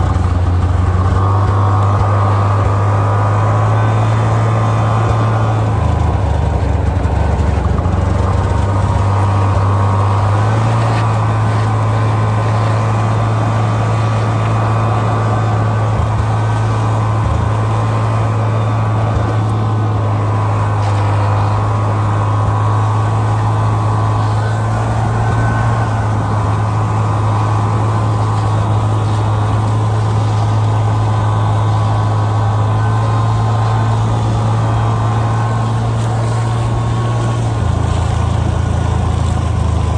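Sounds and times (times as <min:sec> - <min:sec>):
deep engine rumble: 0:00.0 - 0:39.9
snowmobile engine drone: 0:00.0 - 0:39.9.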